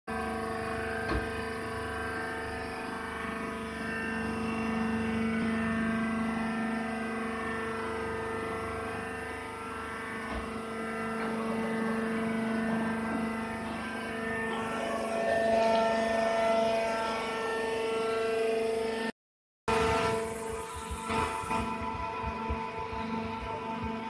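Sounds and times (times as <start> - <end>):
hydraulic pump motor humming: 0.1 - 19.1, 19.7 - 24.0.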